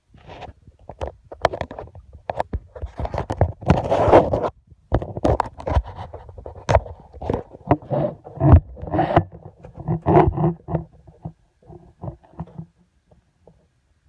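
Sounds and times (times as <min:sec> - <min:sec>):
phone microphone handling noise: 0:00.0 - 0:12.8.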